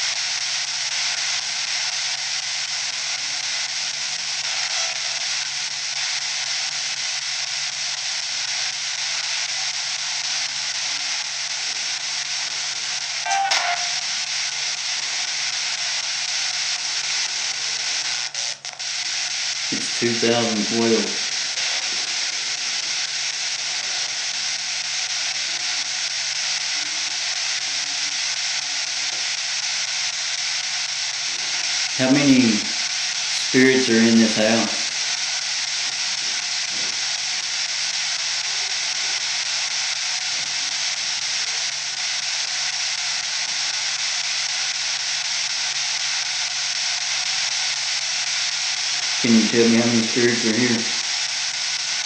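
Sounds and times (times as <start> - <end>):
microphone hiss: 0.0 - 52.0.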